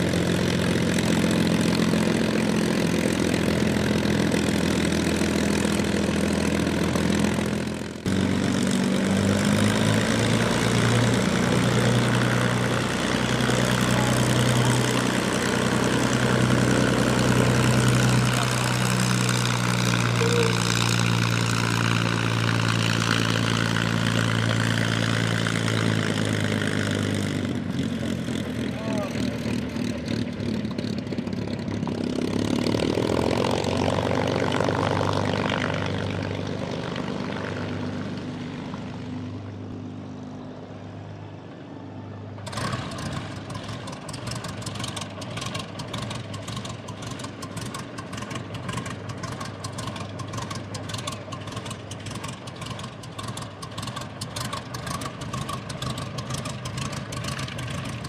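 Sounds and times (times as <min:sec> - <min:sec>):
aircraft engine idling with popping exhaust: 0:00.0 - 0:58.0
propeller aircraft engine taxiing: 0:00.0 - 0:58.0.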